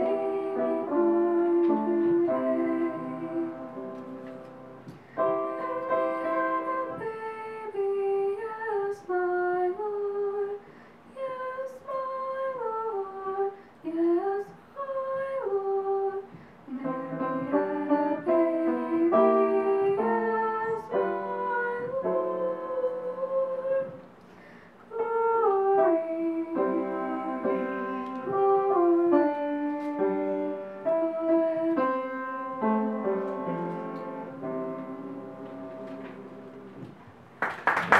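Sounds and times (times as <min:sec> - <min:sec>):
woman singing: 0:00.0 - 0:04.2, 0:05.3 - 0:24.0, 0:24.9 - 0:32.8
piano accompaniment: 0:00.0 - 0:10.6, 0:11.8 - 0:37.9.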